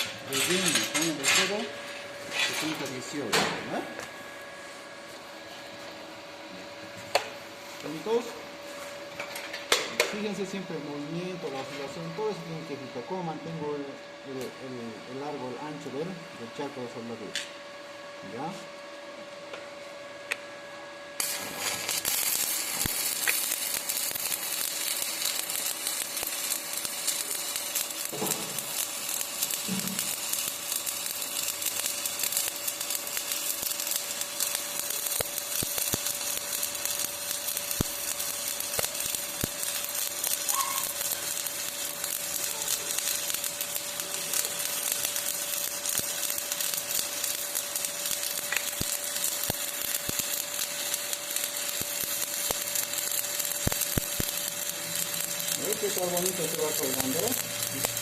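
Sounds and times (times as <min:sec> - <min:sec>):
welding arc crackling and sizzling: 0:00.0 - 0:17.5, 0:21.2 - 0:58.0.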